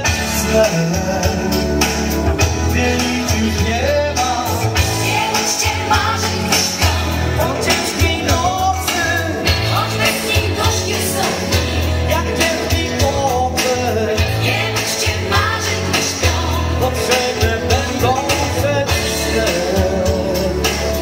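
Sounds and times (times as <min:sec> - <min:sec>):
man singing into a microphone: 0:00.0 - 0:21.0
pop backing track with bass and beat: 0:00.0 - 0:21.0.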